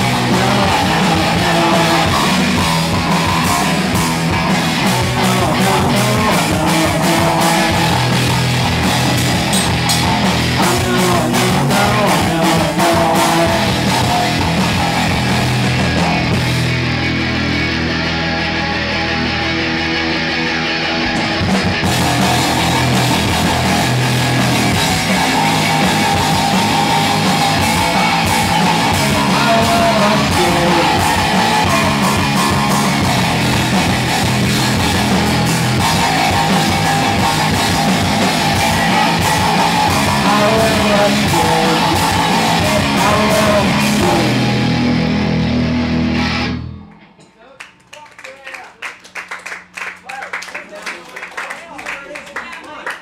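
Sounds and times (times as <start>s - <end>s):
rock band playing live: 0.0s - 47.4s.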